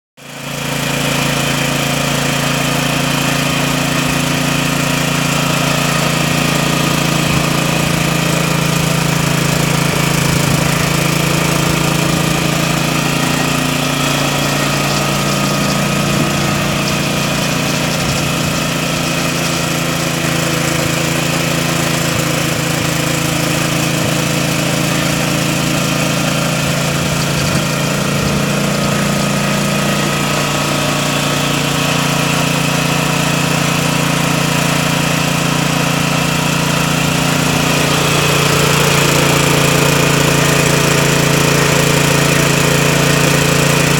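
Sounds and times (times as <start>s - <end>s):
band saw running: 0.2s - 43.9s.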